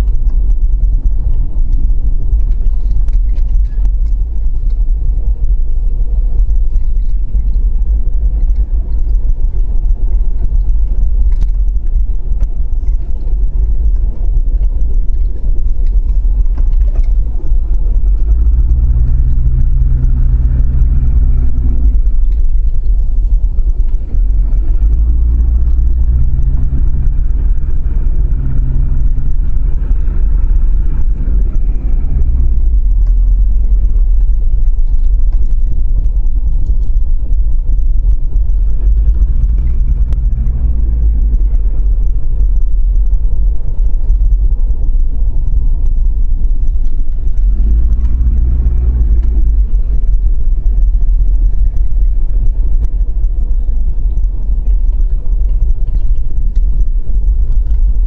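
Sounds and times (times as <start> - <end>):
humming drone: 0.0 - 58.0
vehicle engine low rumble: 0.0 - 58.0.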